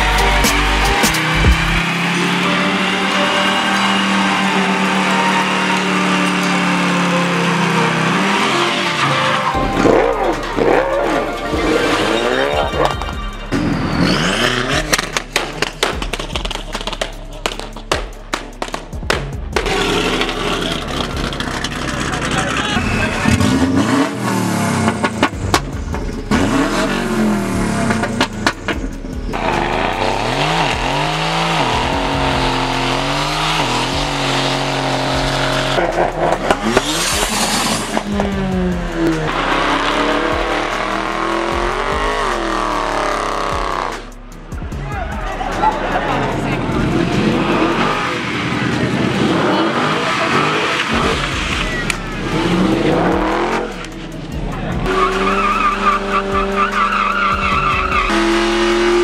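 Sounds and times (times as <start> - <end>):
car engine revving: 0.0 - 59.0
tyre and exhaust noise: 0.0 - 59.0.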